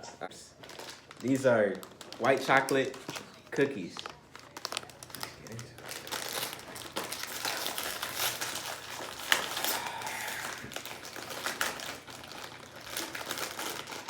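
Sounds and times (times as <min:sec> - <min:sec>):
snack packaging crinkling: 0:00.5 - 0:14.0.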